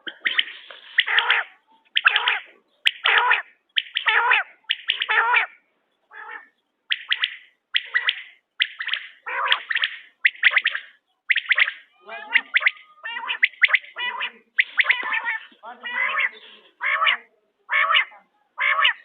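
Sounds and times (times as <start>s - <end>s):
quail calling: 0.0s - 19.0s.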